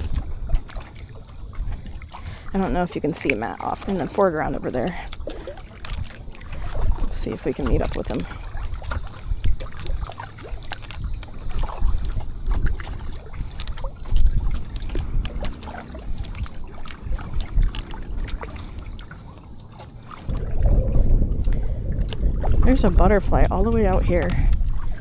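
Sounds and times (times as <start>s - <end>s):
paddle strokes splashing: 0.0s - 25.0s
water lapping against hull: 0.0s - 25.0s
wind on microphone: 0.0s - 25.0s.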